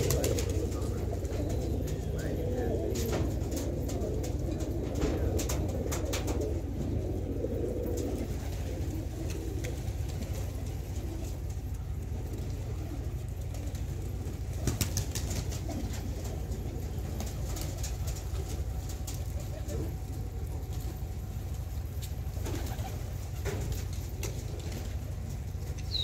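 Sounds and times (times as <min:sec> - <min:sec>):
wing flaps: 0:00.0 - 0:21.1, 0:21.9 - 0:25.8
pigeons cooing: 0:00.0 - 0:26.0.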